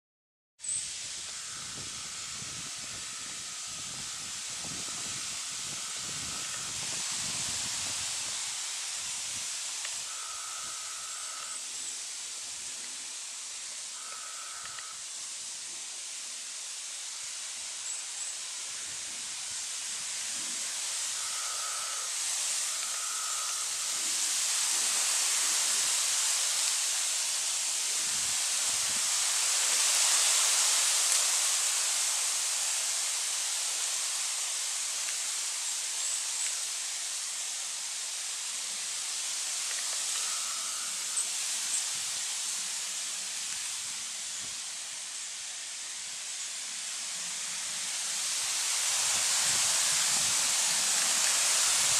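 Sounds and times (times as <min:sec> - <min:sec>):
woodland ambience hiss: 0:00.6 - 0:51.9.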